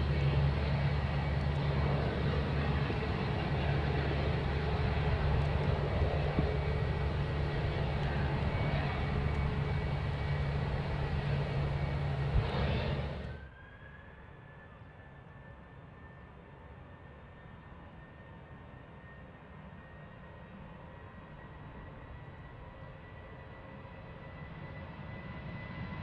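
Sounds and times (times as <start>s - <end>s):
distant jet whine: 0.0s - 26.0s
jet engines rumbling with a whine: 0.0s - 26.0s.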